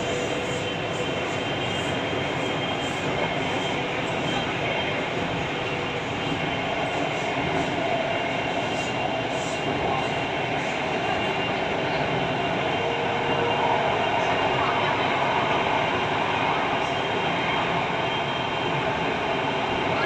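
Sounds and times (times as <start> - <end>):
train rumble from inside car: 0.0 - 20.0.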